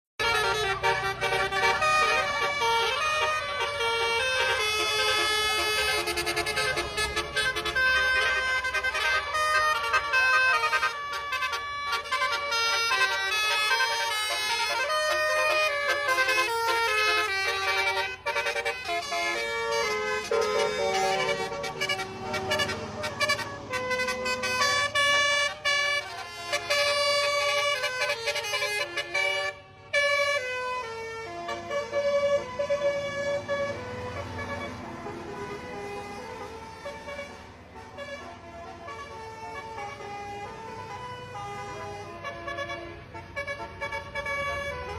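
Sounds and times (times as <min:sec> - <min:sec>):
bus musical horn melody: 0:00.2 - 0:44.9.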